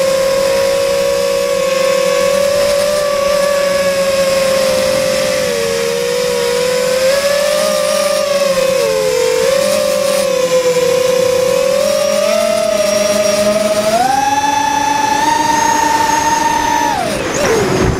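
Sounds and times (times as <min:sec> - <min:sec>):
drone motors whining: 0:00.0 - 0:17.9.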